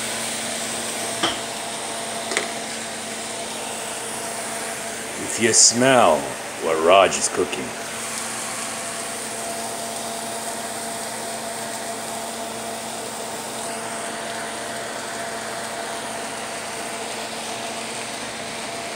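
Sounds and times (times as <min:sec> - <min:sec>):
fan whirring: 0:00.0 - 0:18.9.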